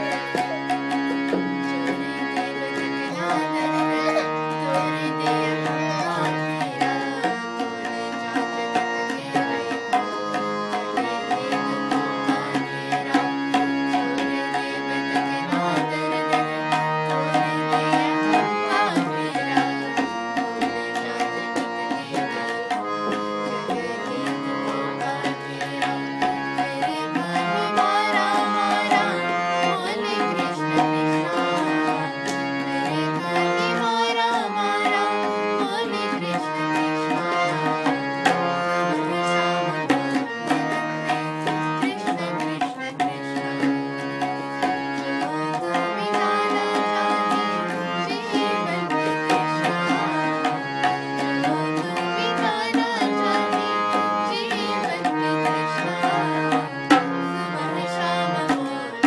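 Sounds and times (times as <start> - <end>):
harmonium melody: 0.0 - 59.0.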